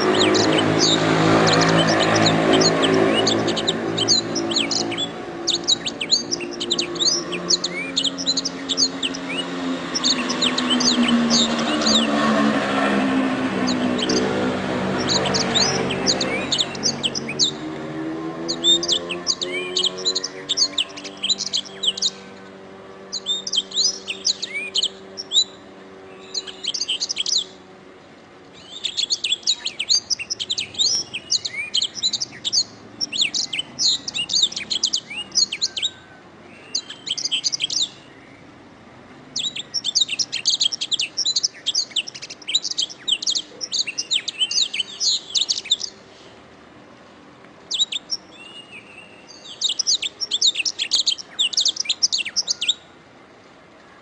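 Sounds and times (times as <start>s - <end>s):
canary singing trills: 0.0s - 27.7s, 28.5s - 38.6s, 39.2s - 46.3s, 47.7s - 53.0s.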